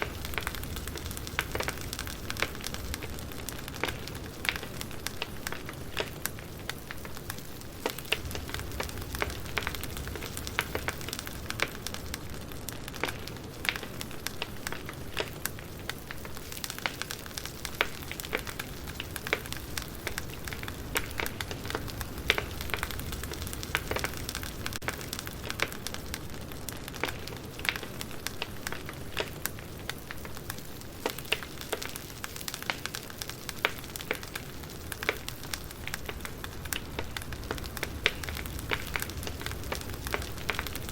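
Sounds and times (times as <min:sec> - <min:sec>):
low rumble of burning logs: 0:00.0 - 0:40.9
wood fire crackling: 0:00.0 - 0:40.9.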